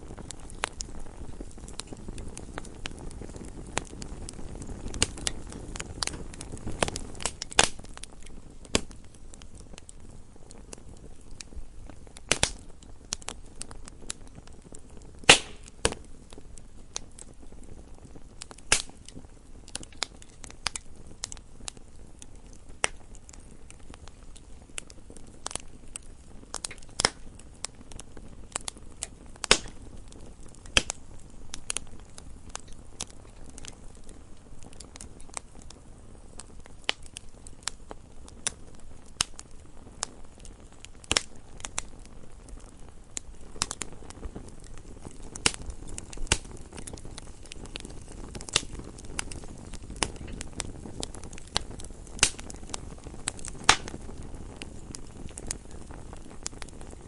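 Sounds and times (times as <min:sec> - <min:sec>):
logs crackling and popping: 0:00.0 - 0:57.0
low steady fire hiss: 0:00.0 - 0:57.0.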